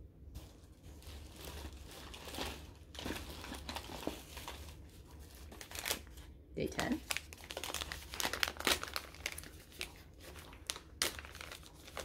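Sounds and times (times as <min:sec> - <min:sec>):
paper bag crinkling: 0:00.3 - 0:12.0.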